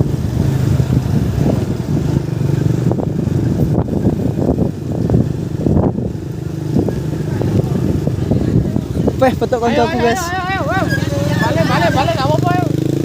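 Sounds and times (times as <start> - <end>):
motorcycle engine at low revs: 0.0 - 9.6, 10.8 - 13.0.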